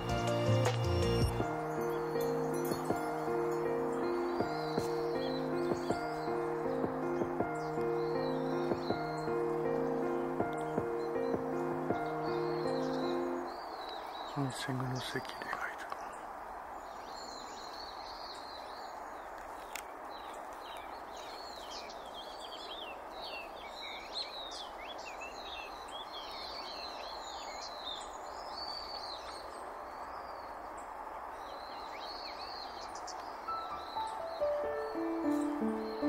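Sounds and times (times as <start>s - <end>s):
birds chirping: 0.0s - 36.0s
outdoor background rush: 0.0s - 36.0s.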